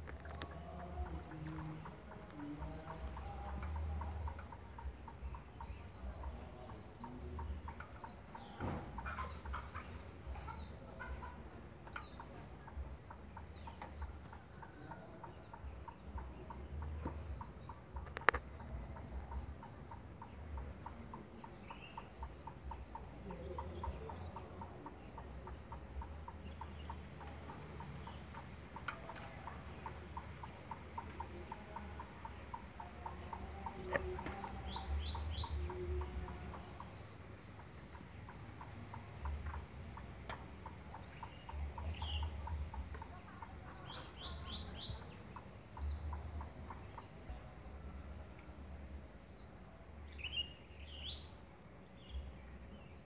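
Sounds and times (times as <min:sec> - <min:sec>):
high insect drone: 0:00.0 - 0:53.0
regular ticking call: 0:00.0 - 0:53.0.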